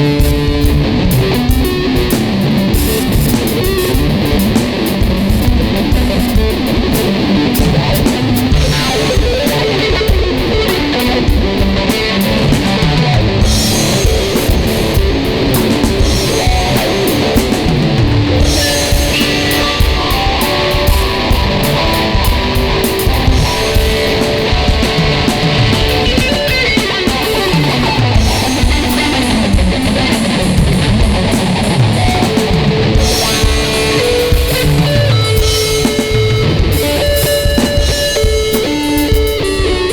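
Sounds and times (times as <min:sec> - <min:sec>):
drum beat: 0:00.0 - 0:39.9
electric guitar riff: 0:00.0 - 0:39.9.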